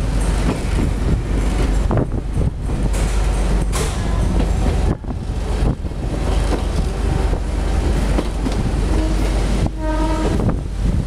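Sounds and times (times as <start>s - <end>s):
train wheels rumbling on rails: 0.0s - 11.0s
wind rushing past window: 0.0s - 11.0s.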